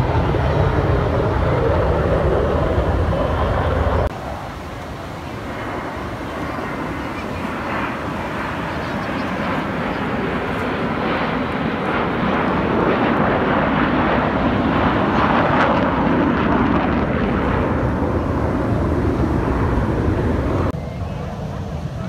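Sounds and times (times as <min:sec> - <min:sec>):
aircraft engines roaring: 0:00.0 - 0:22.0.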